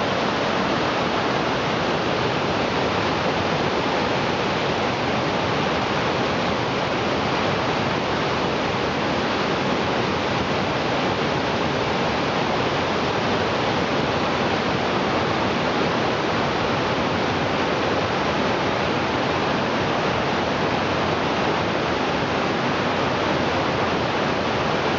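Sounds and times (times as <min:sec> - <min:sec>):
creek rushing over boulders: 0:00.0 - 0:24.9.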